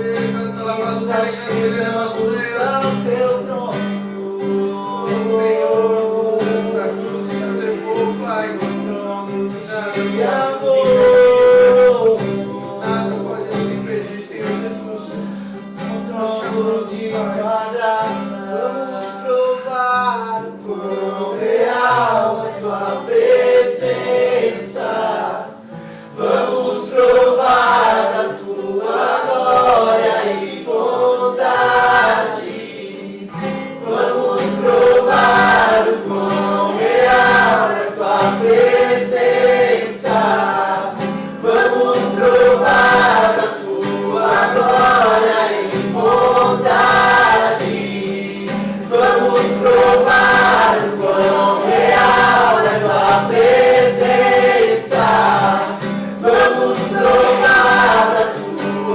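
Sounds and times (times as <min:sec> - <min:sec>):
strummed acoustic guitar: 0:00.0 - 0:58.9
voices singing in unison: 0:00.0 - 0:58.9.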